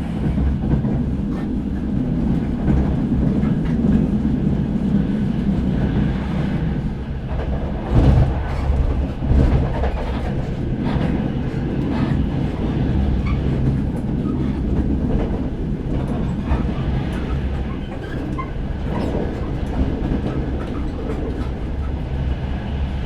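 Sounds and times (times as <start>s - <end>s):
sharp knocks of train: 0.0s - 22.1s
train rumbling on track: 0.0s - 23.0s.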